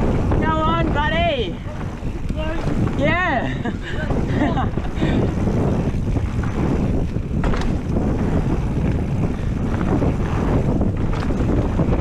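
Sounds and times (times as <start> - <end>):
bike knocking and rattling: 0.0 - 12.0
tyres rumbling on dirt: 0.0 - 12.0
wind buffeting microphone: 0.0 - 12.0.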